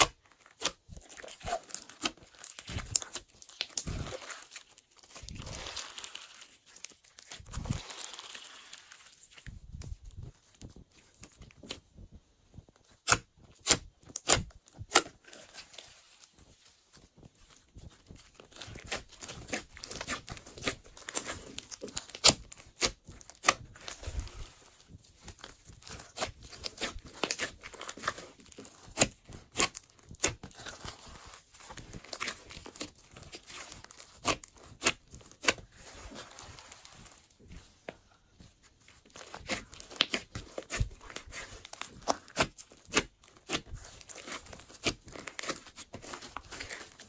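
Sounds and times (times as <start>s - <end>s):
soft crackling of slime: 0.0s - 47.0s.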